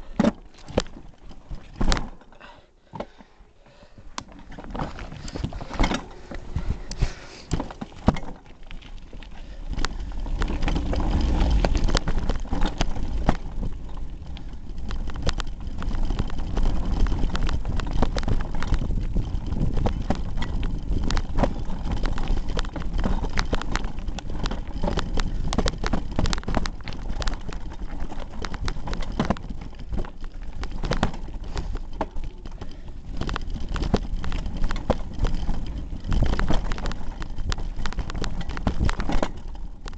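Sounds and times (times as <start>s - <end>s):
bike rattling over rocks: 0.0s - 39.9s
wind and tyre rumble: 4.0s - 39.9s.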